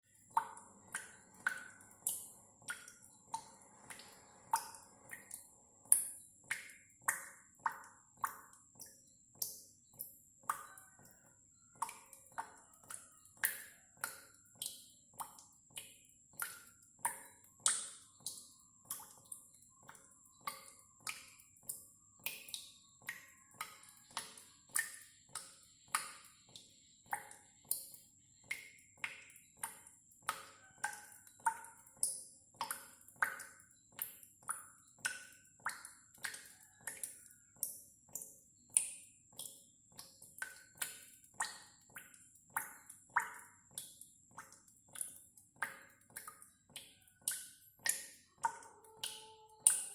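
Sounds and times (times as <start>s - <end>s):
water dripping: 0.0s - 49.9s.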